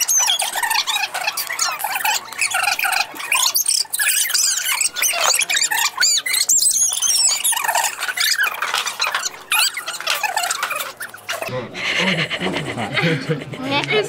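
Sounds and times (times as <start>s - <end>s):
young people squealing and shrieking: 0.0s - 11.5s.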